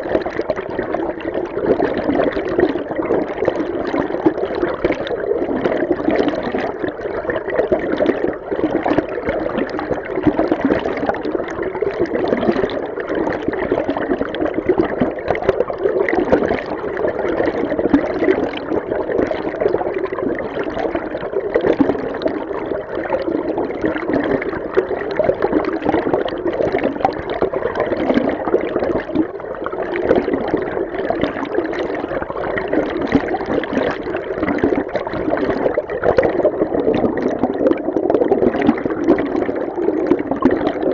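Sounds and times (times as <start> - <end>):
underwater stream rushing: 0.0 - 40.9.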